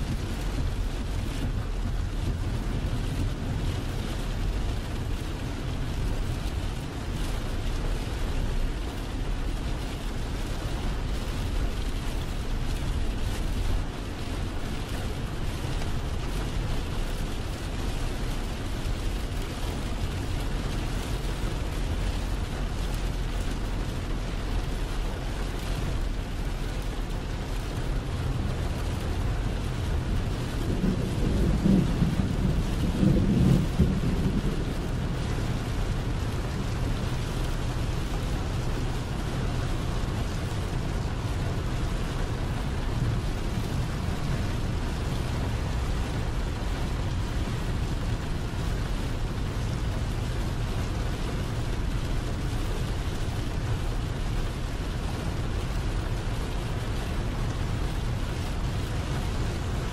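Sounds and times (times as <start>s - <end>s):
heavy rain on truck windshield: 0.0s - 59.9s
low rumble: 0.0s - 59.9s.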